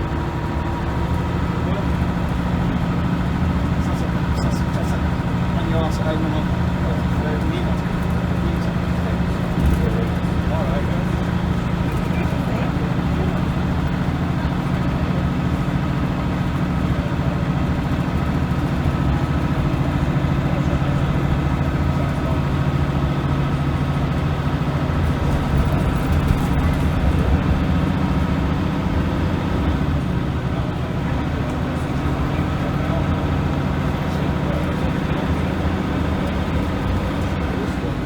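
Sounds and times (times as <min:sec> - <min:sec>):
bus diesel engine running: 0:00.0 - 0:38.0.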